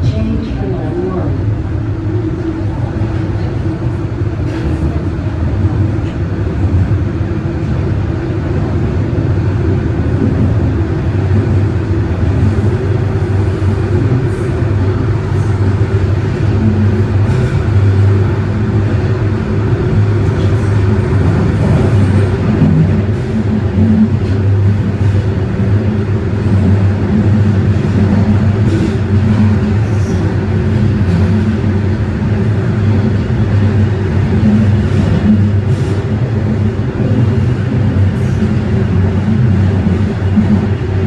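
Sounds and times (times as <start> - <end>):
subway train rumbling in tunnel: 0.0 - 41.0.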